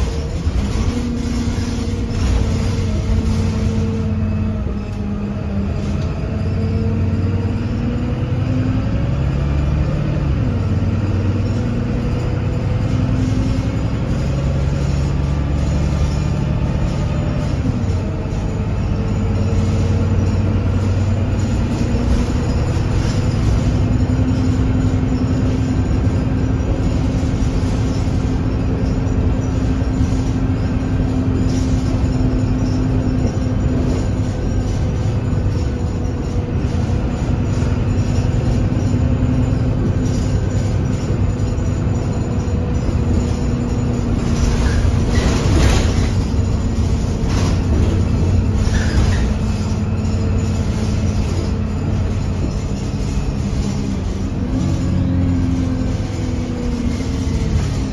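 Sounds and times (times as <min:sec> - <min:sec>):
bus engine running: 0:00.0 - 0:57.9
road noise: 0:00.0 - 0:57.9.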